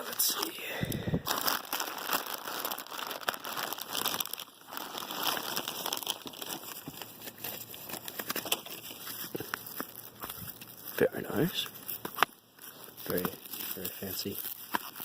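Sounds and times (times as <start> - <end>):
packaging wrapping crinkling: 0.0 - 15.0.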